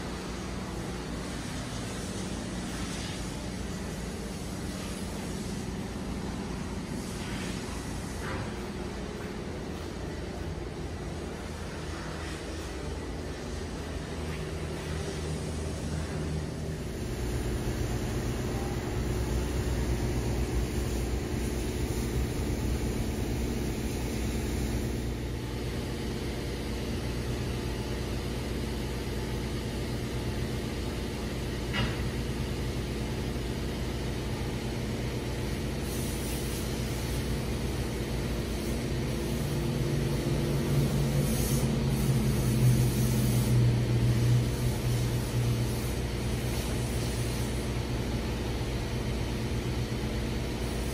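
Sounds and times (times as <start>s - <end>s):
car wash machinery drone: 0.0s - 50.9s.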